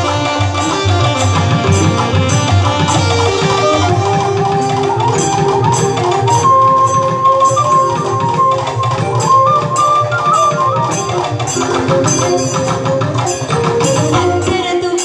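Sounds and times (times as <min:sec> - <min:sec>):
gliding melody instrument: 0:00.0 - 0:15.0
hand percussion rhythm: 0:00.0 - 0:15.0.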